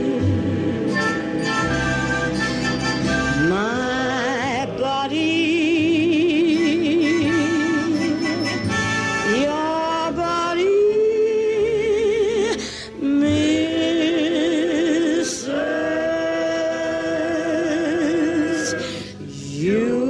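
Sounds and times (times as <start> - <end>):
woman singing: 3.2 - 8.6, 9.2 - 20.0.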